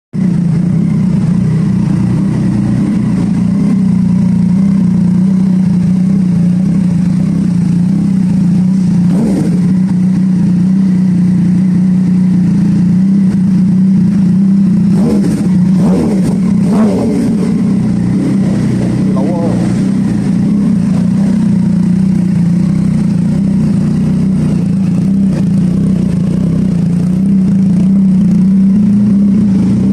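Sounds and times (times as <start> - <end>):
motorcycle engine idling: 0.2 - 29.9.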